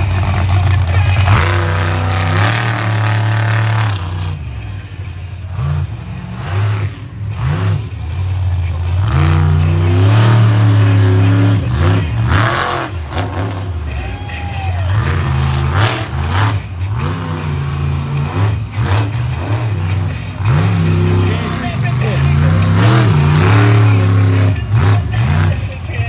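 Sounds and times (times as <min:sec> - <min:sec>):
big vehicle engine revving: 0:00.0 - 0:26.0.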